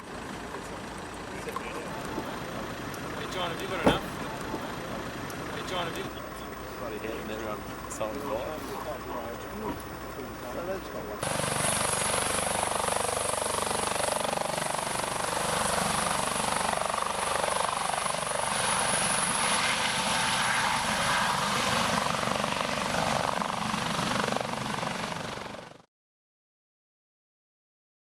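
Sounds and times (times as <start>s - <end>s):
helicopter rotor chop: 0.0s - 25.8s.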